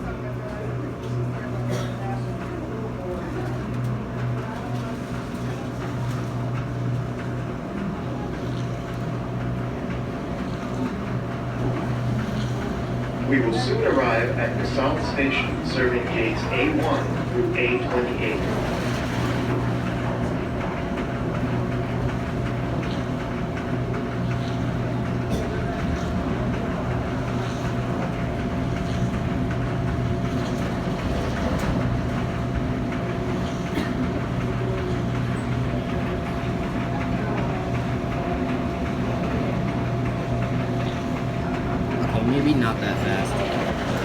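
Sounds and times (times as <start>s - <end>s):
tram rumbling along track: 0.0s - 44.0s.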